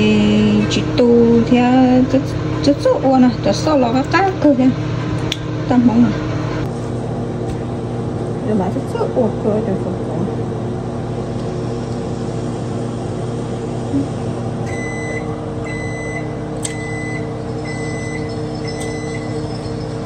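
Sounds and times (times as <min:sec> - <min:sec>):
appliance electrical hum: 0:00.0 - 0:20.0.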